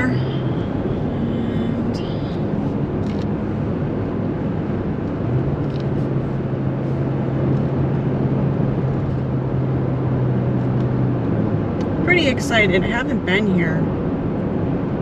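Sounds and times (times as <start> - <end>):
steady low hum: 0.0 - 15.0
tyre and engine noise: 0.0 - 15.0.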